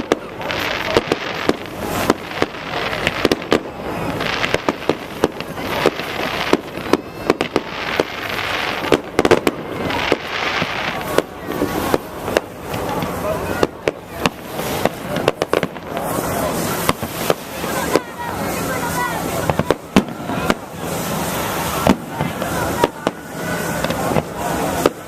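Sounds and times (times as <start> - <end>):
fireworks bangs: 0.0 - 25.0
fireworks crackling: 0.0 - 25.0.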